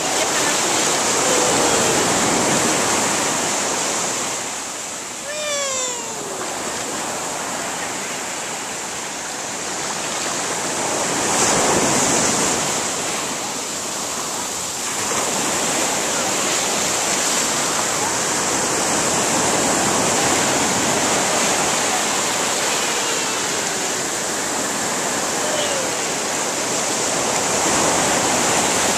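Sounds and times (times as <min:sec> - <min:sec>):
ocean surf breaking: 0:00.0 - 0:28.9.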